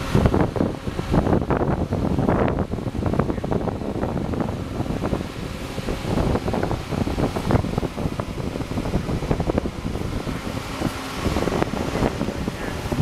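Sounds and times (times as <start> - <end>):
travel lift engine running: 0.0 - 13.0
wind buffeting the microphone: 0.0 - 13.0.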